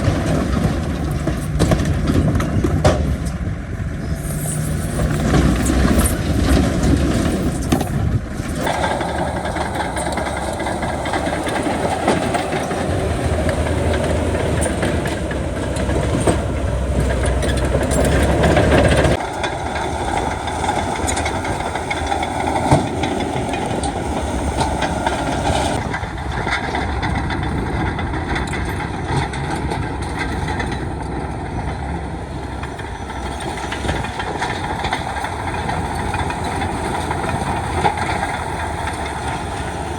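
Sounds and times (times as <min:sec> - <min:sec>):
heavy machinery diesel engines: 0:00.0 - 0:39.9
metal clanks: 0:00.0 - 0:39.9.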